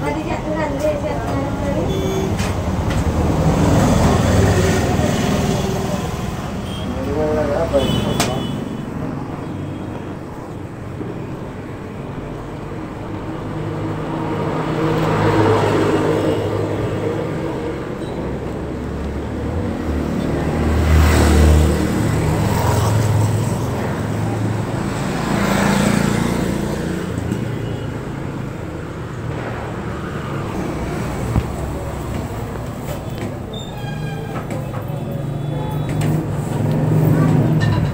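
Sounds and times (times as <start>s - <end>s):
road traffic rumble: 0.0s - 37.9s
vehicles passing: 0.0s - 37.9s.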